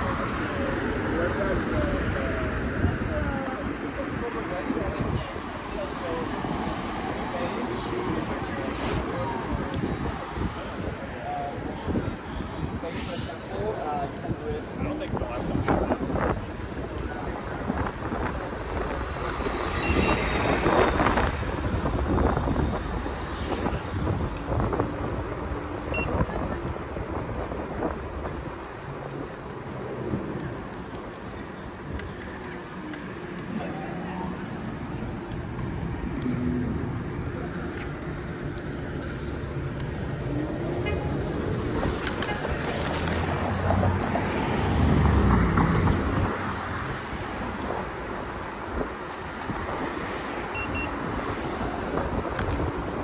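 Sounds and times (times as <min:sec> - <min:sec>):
scooter road rumble: 0:00.0 - 0:53.0
traffic: 0:00.0 - 0:53.0
wind buffeting microphone: 0:00.0 - 0:53.0.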